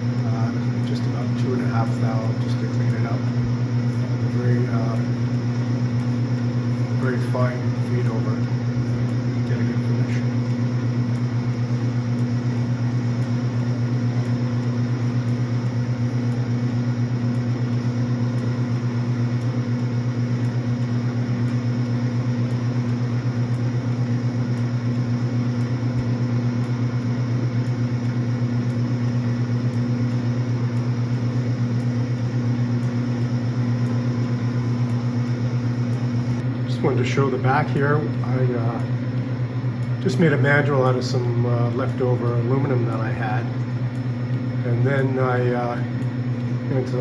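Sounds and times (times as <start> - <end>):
lathe humming: 0.0 - 47.0.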